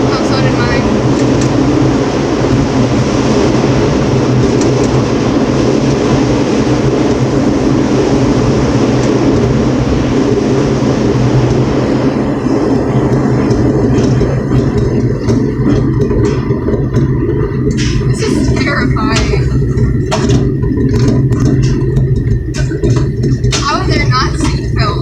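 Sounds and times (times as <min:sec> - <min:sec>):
tram car hum and rumble: 0:00.0 - 0:25.0.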